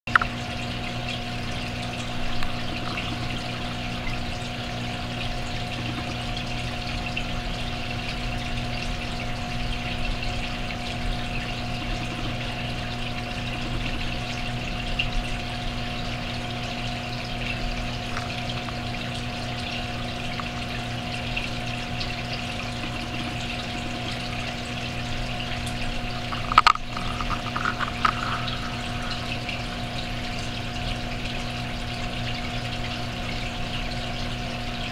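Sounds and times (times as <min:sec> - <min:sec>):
aquarium pump humming: 0:00.1 - 0:34.9
water trickling: 0:00.1 - 0:34.9.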